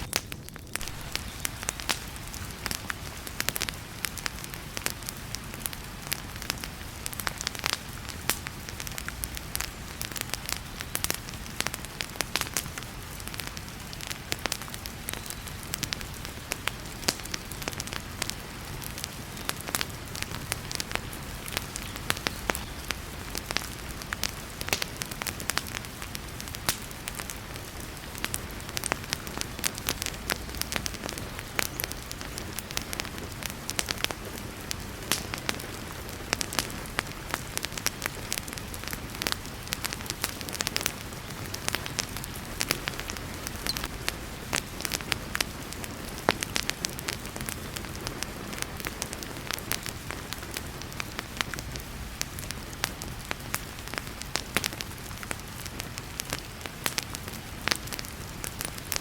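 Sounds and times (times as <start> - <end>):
wood fire crackling and popping: 0.0 - 59.0
heavy rain hissing: 0.8 - 59.0.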